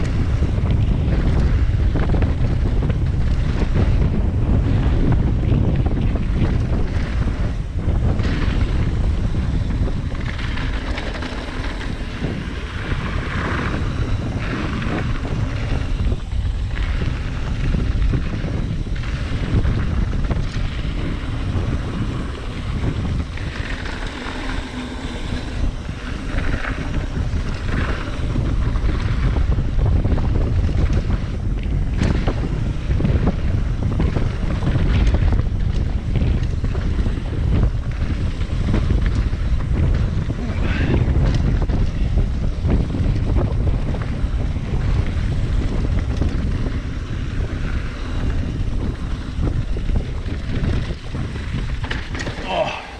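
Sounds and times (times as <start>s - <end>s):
bike knocks and rattles: 0.0s - 52.9s
tyres rolling over dirt: 0.0s - 52.9s
wind rushing over microphone: 0.0s - 52.9s.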